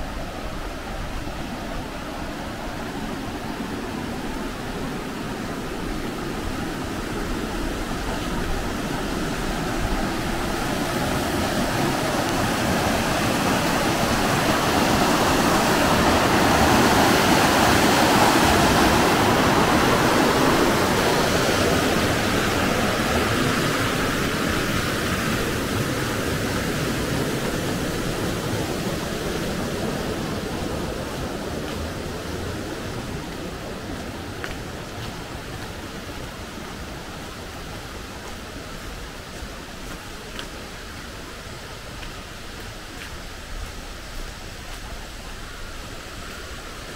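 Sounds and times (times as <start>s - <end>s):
rocky stream rushing: 0.0s - 46.9s.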